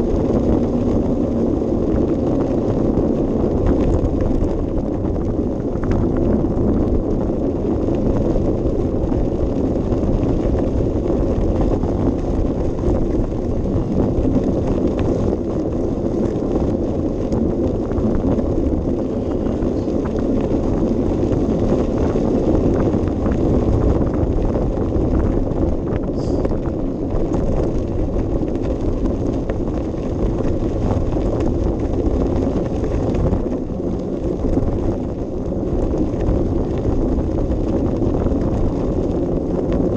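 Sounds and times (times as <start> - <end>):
bicycle rolling noise: 0.0 - 39.9
wind buffeting microphone: 0.0 - 39.9.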